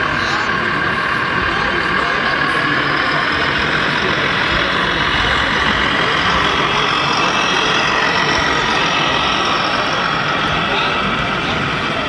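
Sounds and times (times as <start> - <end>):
diesel truck engine through small speaker: 0.0 - 12.0.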